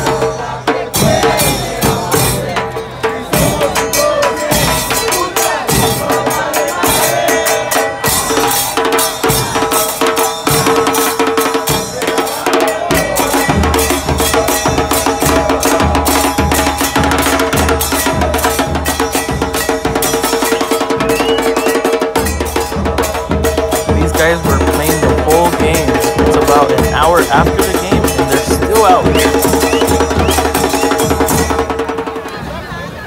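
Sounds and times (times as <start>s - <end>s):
heavy bass drum beat: 0.0s - 32.2s
crowd chanting: 0.0s - 33.0s
drum band with cymbals: 0.0s - 33.0s.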